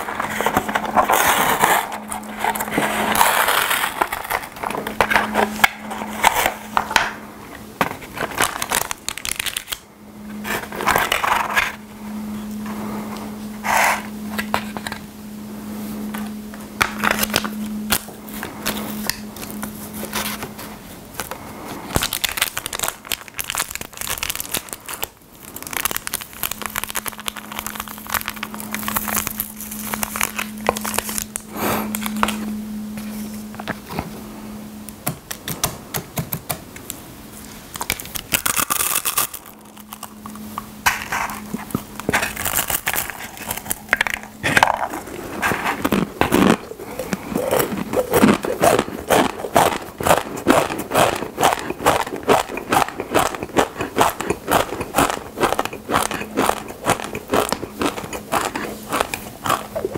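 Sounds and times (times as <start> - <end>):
food packaging crinkling: 0.0 - 11.8, 16.2 - 33.9, 37.6 - 59.9
low hum: 0.0 - 59.9.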